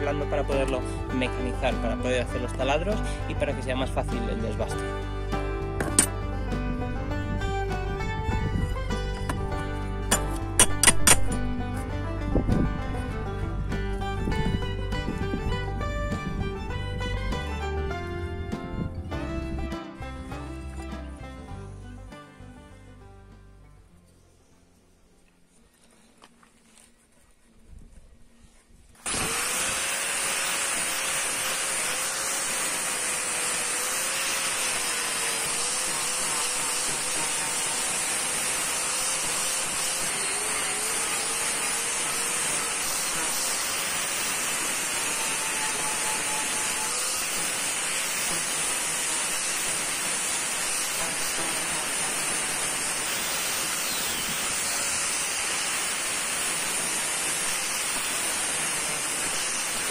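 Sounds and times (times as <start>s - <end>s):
angle grinder grinding metal: 0.0s - 22.1s, 29.0s - 59.9s.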